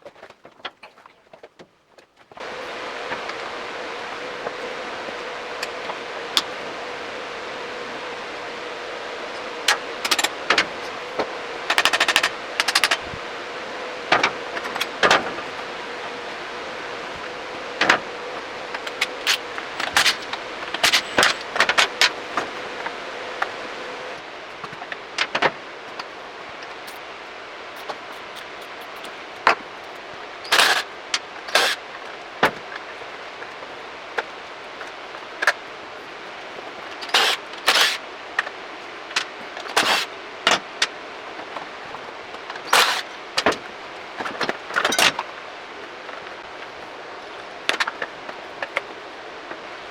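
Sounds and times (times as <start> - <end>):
faint hum: 2.3 - 49.9
steady hiss: 2.4 - 49.9.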